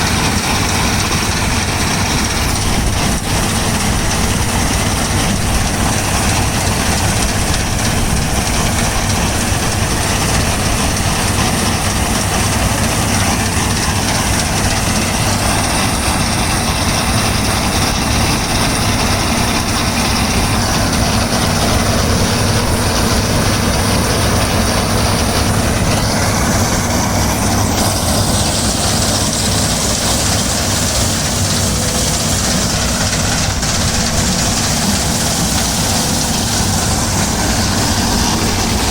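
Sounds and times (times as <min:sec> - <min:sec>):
combine harvester heavy drone: 0:00.0 - 0:38.9
high-pitched machinery whine: 0:00.0 - 0:38.9.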